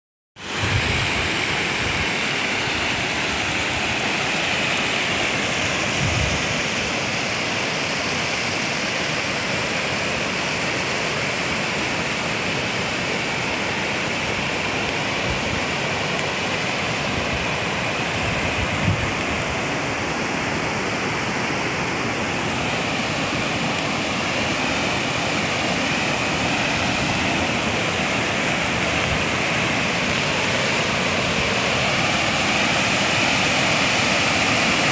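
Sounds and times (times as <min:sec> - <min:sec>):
river water rushing over rocks: 0:00.4 - 0:34.9.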